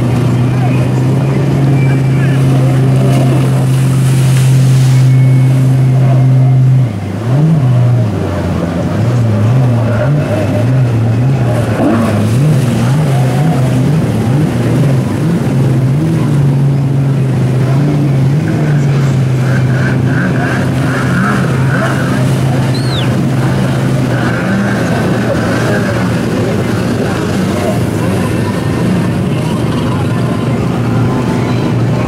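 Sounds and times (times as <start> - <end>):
water splashing: 0.0 - 32.0
watercraft engine droning: 0.0 - 32.0.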